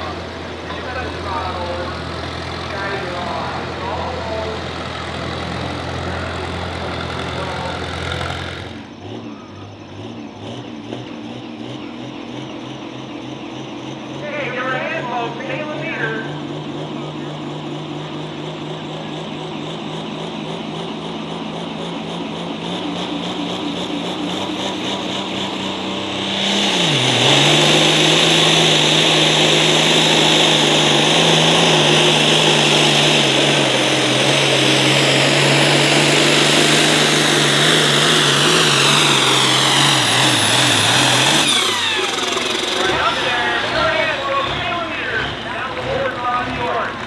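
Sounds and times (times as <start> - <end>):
diesel tractor engine at high revs: 0.0 - 47.0.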